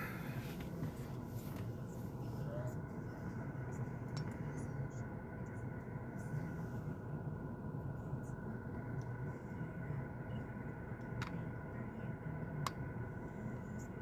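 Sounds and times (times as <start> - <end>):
car idling hum: 0.0 - 14.0.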